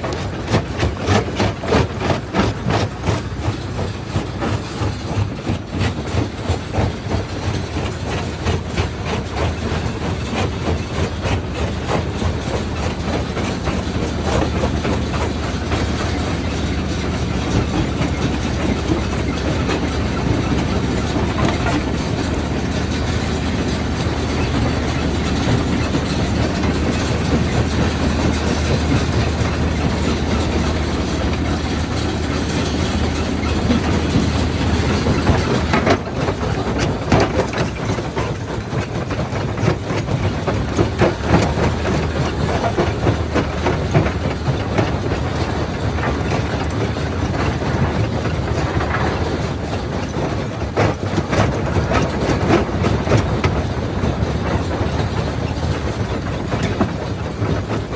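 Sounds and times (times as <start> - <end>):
rock crusher droning: 0.0 - 57.9.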